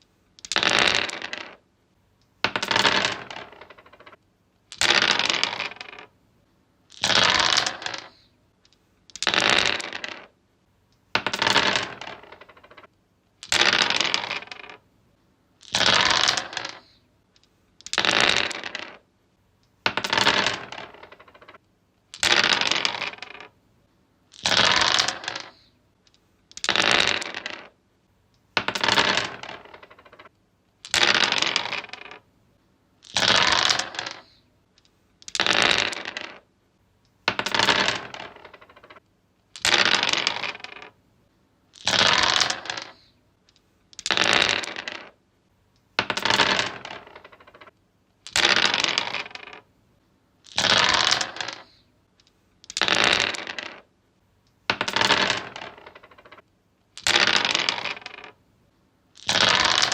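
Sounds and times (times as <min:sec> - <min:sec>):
dice rolling on wood: 0:00.4 - 0:01.6, 0:02.3 - 0:06.2, 0:06.9 - 0:10.4, 0:11.0 - 0:14.8, 0:15.6 - 0:19.1, 0:19.7 - 0:23.6, 0:24.3 - 0:27.8, 0:28.4 - 0:32.3, 0:33.0 - 0:36.5, 0:37.1 - 0:41.0, 0:41.7 - 0:45.2, 0:45.8 - 0:49.7, 0:50.4 - 0:53.9, 0:54.5 - 0:58.4, 0:59.2 - 0:59.9.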